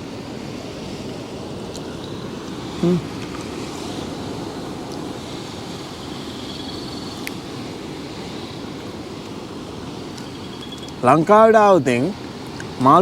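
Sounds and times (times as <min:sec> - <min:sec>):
sea surf washing on shore: 0:00.0 - 0:13.0
wind: 0:00.0 - 0:13.0.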